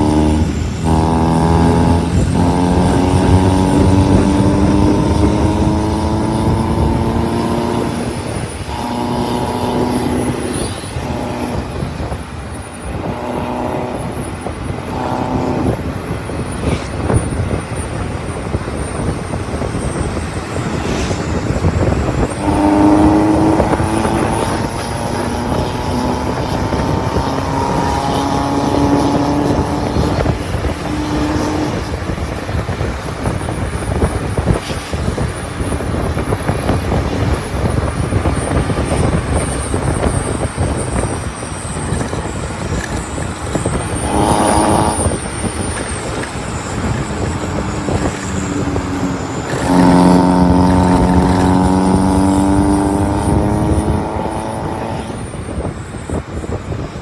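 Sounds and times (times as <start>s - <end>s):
diesel engines: 0.0s - 57.0s
engine droning under load: 0.0s - 57.0s
tyre noise on road: 0.0s - 57.0s.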